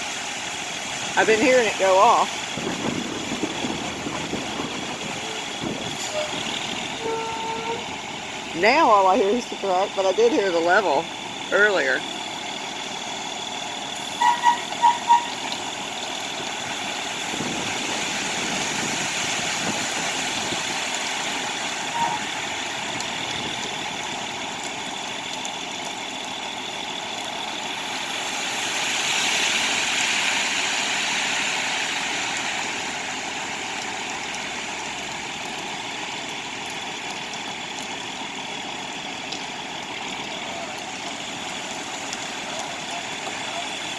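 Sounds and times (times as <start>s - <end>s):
concrete truck running: 0.0s - 43.9s.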